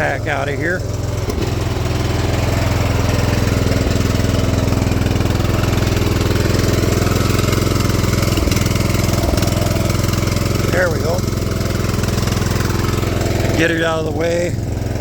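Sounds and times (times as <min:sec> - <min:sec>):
riding lawn mower engine running: 0:00.0 - 0:15.0.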